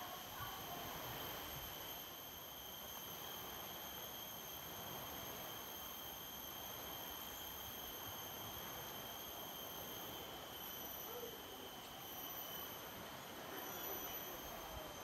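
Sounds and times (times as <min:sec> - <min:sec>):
insects buzzing drone: 0:00.0 - 0:15.0.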